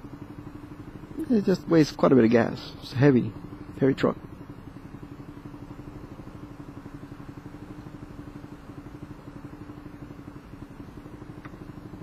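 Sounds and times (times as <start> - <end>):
scooter engine running at low revs: 0.0 - 12.0.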